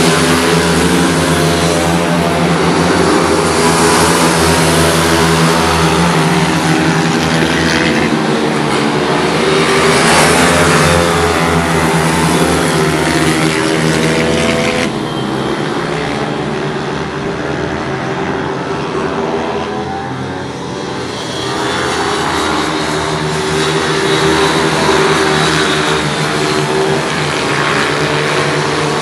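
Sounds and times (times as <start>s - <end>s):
pit bike engines racing: 0.0s - 29.0s.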